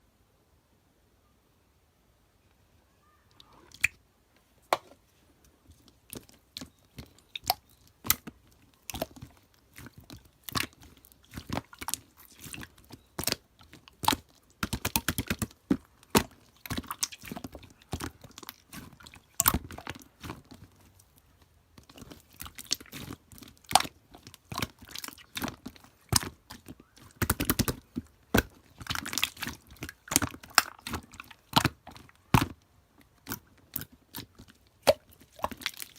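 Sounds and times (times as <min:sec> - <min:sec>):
slime popping and crackling: 0:05.8 - 0:35.9.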